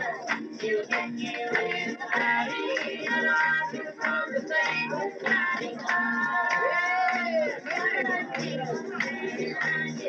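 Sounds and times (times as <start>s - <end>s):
gospel singing with instruments: 0.0s - 10.0s.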